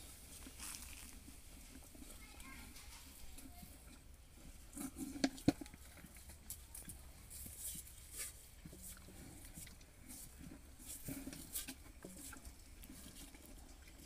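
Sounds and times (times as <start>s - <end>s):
calf licking a steel bowl: 0.0s - 14.0s.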